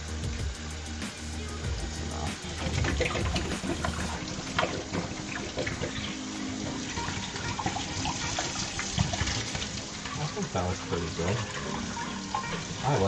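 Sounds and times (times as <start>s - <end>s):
faucet water running into sink: 1.6s - 13.0s.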